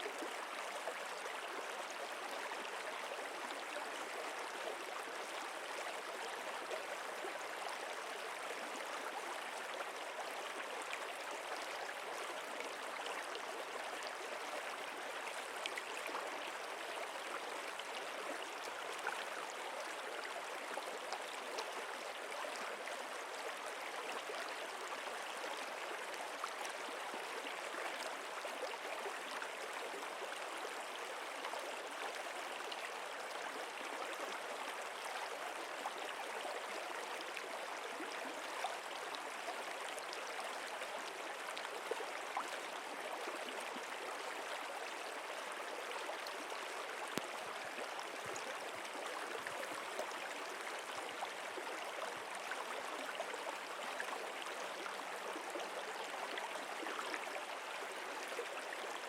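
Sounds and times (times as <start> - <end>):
stream of flowing water: 0.0 - 59.0.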